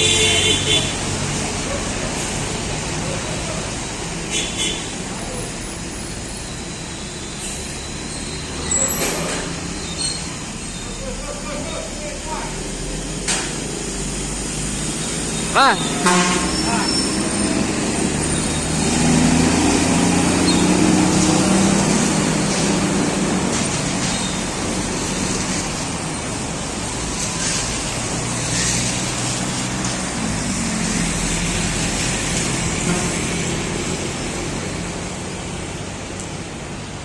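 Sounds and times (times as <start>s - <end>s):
road and traffic noise: 0.0s - 37.0s.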